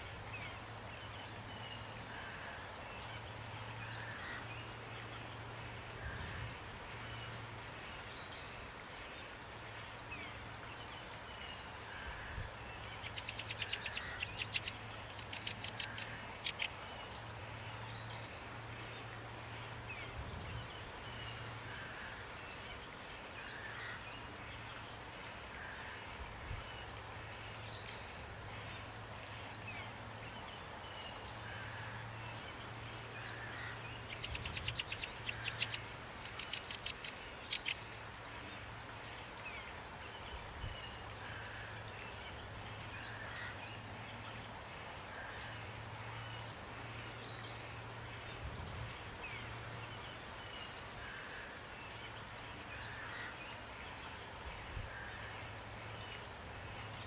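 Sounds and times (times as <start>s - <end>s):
rain hiss: 0.0s - 57.0s
songbirds chirping: 0.0s - 57.0s.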